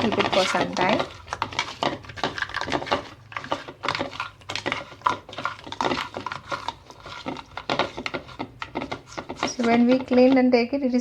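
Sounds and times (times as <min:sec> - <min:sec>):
crab shells clicking in bowl: 0:00.0 - 0:10.5.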